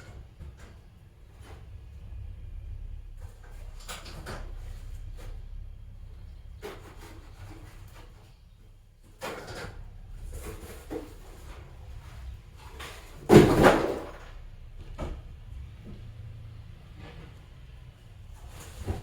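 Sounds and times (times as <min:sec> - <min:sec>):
objects clattering and rubbing: 0:00.0 - 0:14.4, 0:15.0 - 0:19.0.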